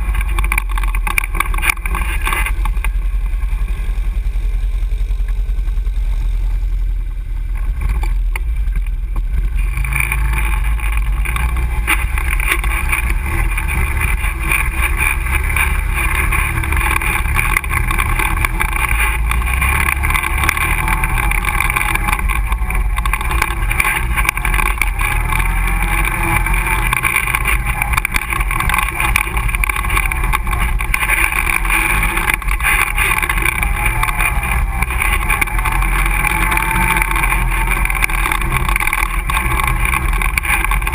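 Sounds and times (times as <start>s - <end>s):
quad engine rumbling: 0.0s - 40.9s.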